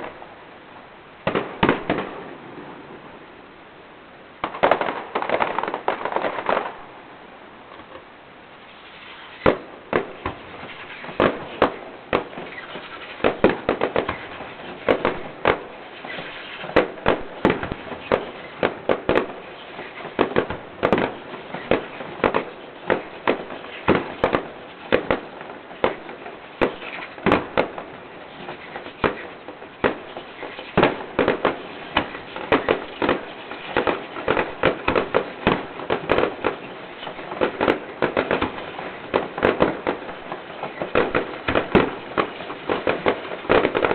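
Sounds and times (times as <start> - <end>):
fireworks crackle: 0.0 - 43.9
fireworks bangs: 1.2 - 3.2, 4.4 - 43.9.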